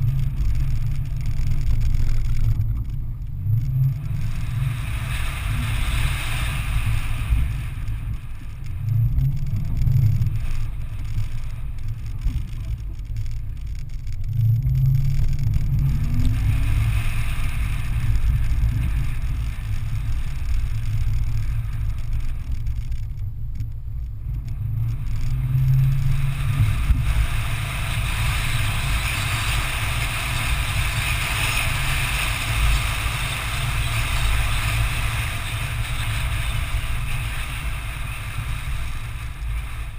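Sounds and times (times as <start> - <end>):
engine rumbling at low revs: 0.0 - 39.9
steady hiss: 3.9 - 14.2, 15.1 - 23.2, 24.4 - 39.9.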